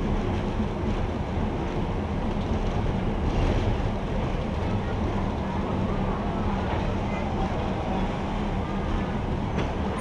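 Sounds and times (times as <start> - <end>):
train engine and wheel rumble: 0.0 - 10.0.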